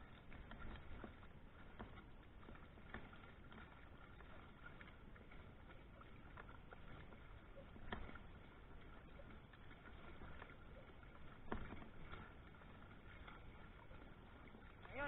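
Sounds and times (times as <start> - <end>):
paddle blades splashing water: 0.0 - 15.0.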